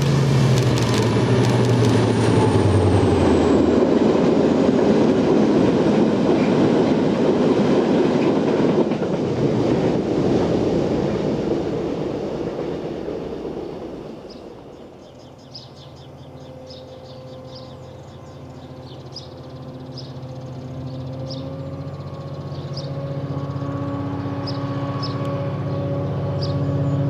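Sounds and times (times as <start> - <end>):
diesel locomotive engine passing: 0.0 - 27.0
train wheels rumbling on rails: 0.0 - 27.0.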